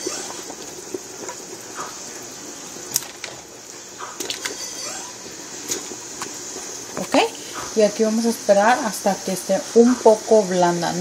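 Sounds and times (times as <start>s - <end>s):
pot of broth boiling: 0.0s - 11.0s.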